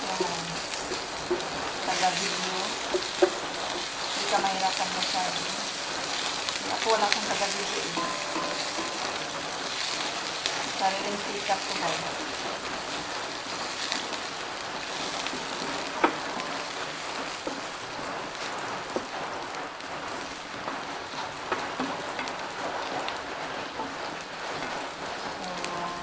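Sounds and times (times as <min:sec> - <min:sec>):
garlic and onion sizzling in oil: 0:00.0 - 0:26.0.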